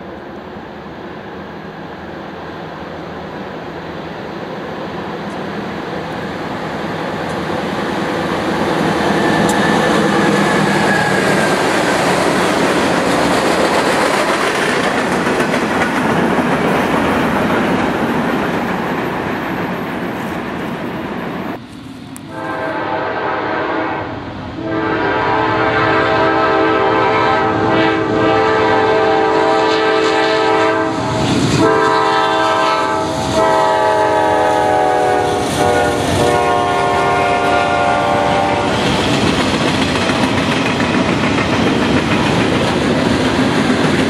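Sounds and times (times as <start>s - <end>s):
diesel locomotive passing: 0.0s - 44.0s
railcars rolling over rails: 0.0s - 44.0s.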